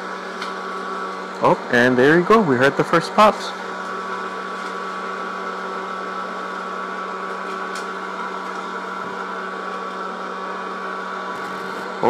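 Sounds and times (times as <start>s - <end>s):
popcorn popper motor humming: 0.0s - 12.0s.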